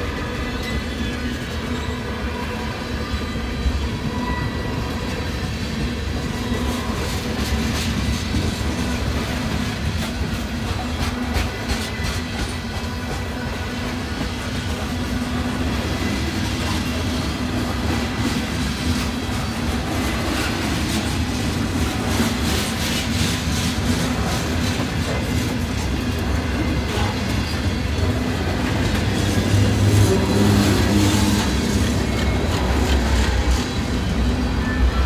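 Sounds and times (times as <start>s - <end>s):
freight train rumbling: 0.0s - 35.0s.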